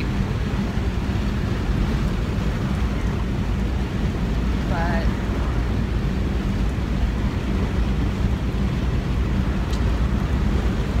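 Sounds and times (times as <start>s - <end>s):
car rumble from inside cabin: 0.0s - 11.0s
wind and road noise hiss: 0.0s - 11.0s.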